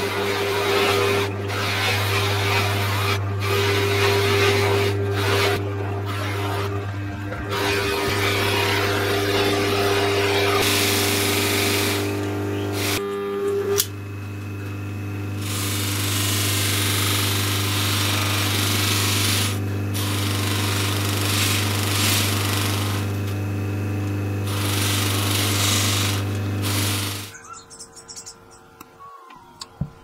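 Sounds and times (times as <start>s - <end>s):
bench motor humming: 0.0s - 30.0s.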